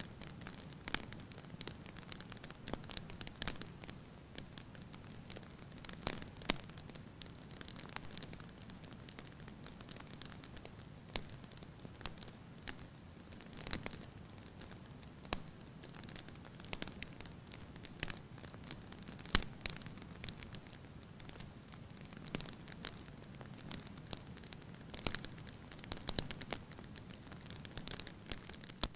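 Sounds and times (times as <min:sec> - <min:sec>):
low steady hiss: 0:00.0 - 0:28.9
sharp clicks and crackles: 0:00.1 - 0:28.9.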